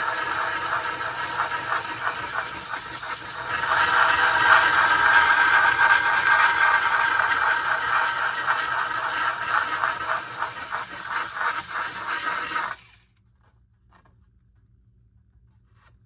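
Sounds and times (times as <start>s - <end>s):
small electric motor whirring: 0.0s - 13.0s.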